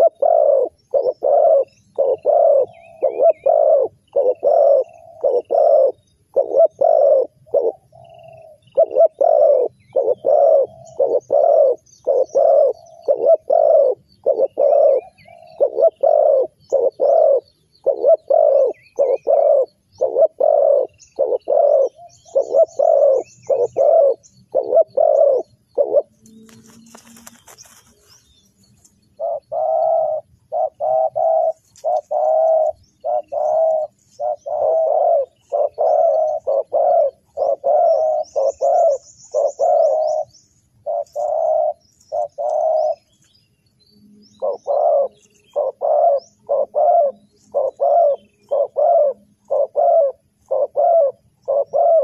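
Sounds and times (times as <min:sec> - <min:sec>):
dove cooing: 0:00.0 - 0:43.2, 0:44.2 - 0:52.0
small bird twittering: 0:00.0 - 0:52.0.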